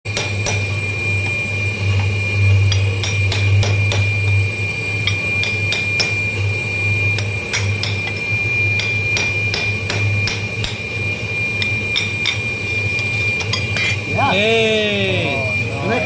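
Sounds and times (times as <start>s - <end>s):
high whine: 0.5s - 16.0s
low pulsing drone: 1.0s - 16.0s.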